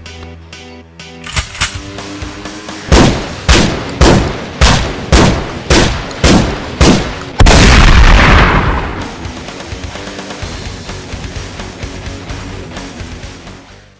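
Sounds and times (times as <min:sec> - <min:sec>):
heavy music hits: 0:01.3 - 0:13.9.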